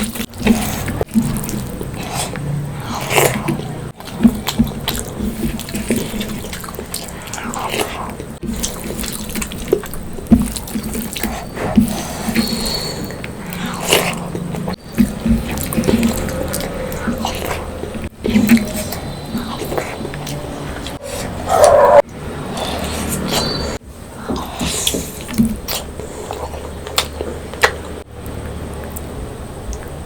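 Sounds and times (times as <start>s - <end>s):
wet eating sounds: 0.0s - 30.0s.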